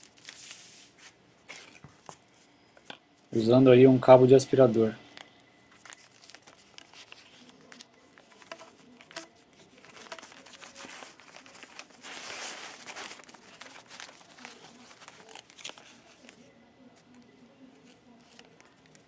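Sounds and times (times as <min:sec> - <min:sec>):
newspaper rustling and crinkling: 0:00.0 - 0:02.3, 0:05.2 - 0:19.0.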